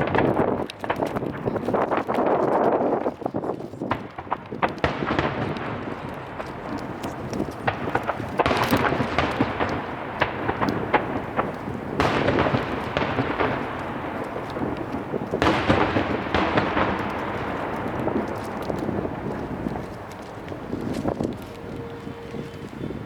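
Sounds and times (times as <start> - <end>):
firework shells booming: 0.0 - 2.2, 3.9 - 23.0
fireworks crackling: 0.0 - 23.0.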